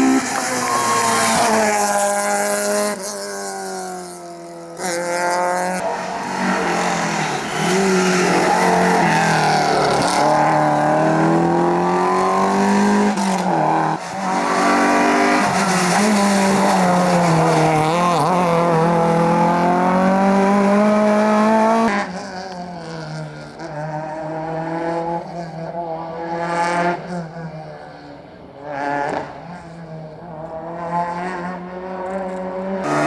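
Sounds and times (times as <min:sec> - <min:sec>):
rally car engine revving high: 0:00.0 - 0:33.0.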